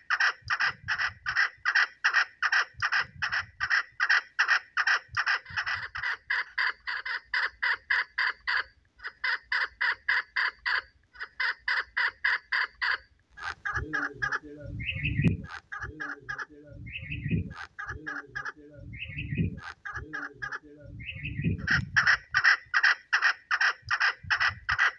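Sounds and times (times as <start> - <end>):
deep repeating bird sound: 0.0 - 24.9
partridge calling sharp notes: 0.0 - 24.9.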